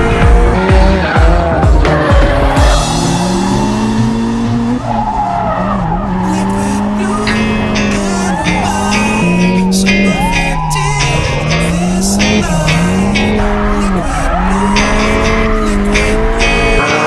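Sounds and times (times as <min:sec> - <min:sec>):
background music: 0:00.0 - 0:17.0
car engine: 0:00.0 - 0:17.0
tyres squealing: 0:00.8 - 0:17.0.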